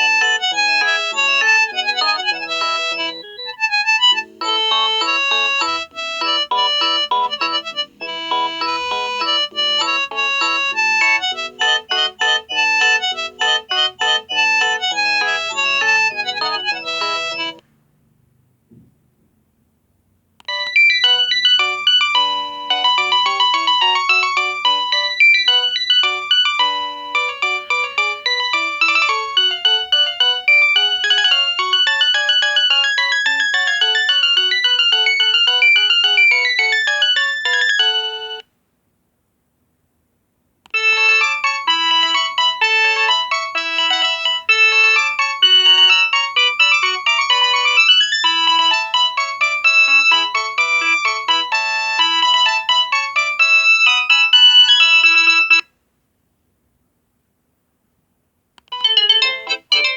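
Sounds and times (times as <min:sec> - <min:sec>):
electronic phone ringtone melody: 0:00.0 - 0:17.6, 0:20.5 - 0:38.4, 0:40.8 - 0:55.7, 0:58.7 - 0:59.9.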